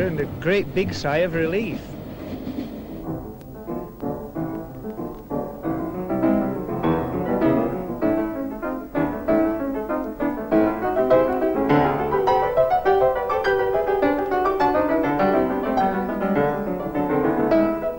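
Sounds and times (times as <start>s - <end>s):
piano music: 0.0s - 1.9s, 2.8s - 17.9s.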